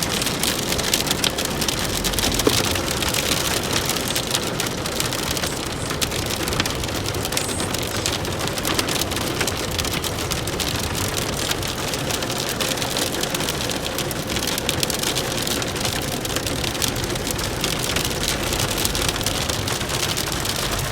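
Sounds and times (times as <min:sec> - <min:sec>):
heavy rain on a car: 0:00.0 - 0:20.9.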